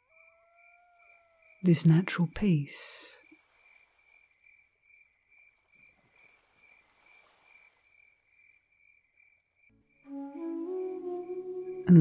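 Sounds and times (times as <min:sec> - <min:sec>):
insect chirping: 0:00.0 - 0:02.1, 0:02.9 - 0:11.9.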